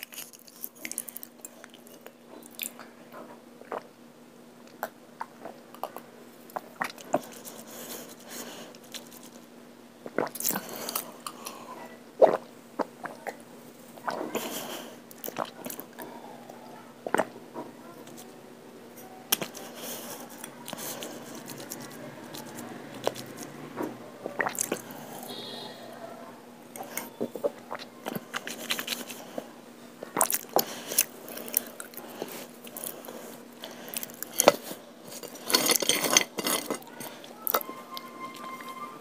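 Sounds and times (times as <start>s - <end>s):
wet squishing of chewing clay: 0.0s - 4.0s, 4.6s - 11.6s, 12.2s - 18.3s, 19.3s - 38.1s.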